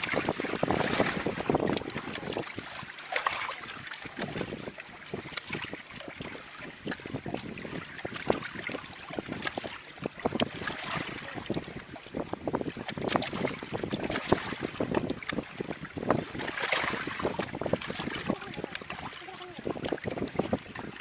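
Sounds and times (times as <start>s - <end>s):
water splashing and lapping: 0.0s - 21.0s
wind on microphone: 0.0s - 21.0s.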